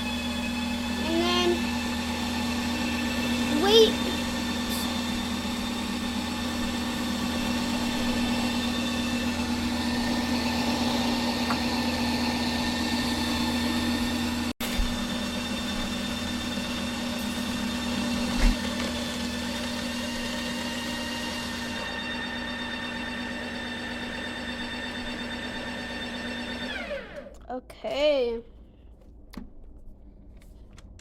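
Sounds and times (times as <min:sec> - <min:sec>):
ice cream maker motor humming: 0:00.0 - 0:27.4.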